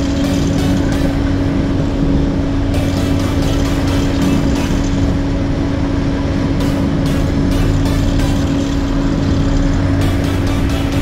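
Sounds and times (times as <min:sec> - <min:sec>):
heavy diesel machinery drone: 0:00.0 - 0:11.0.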